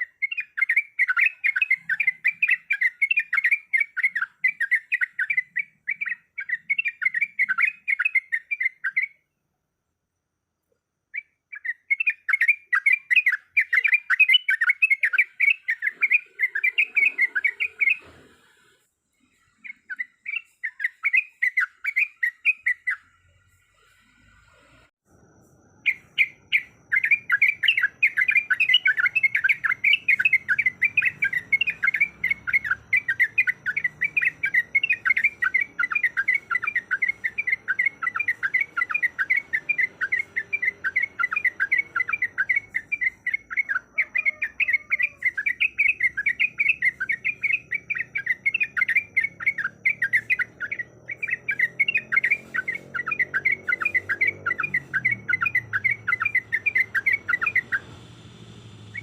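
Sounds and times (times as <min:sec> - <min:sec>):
bird chattering song: 0:00.0 - 0:09.2, 0:11.1 - 0:18.2, 0:19.2 - 0:24.1, 0:25.8 - 0:59.0.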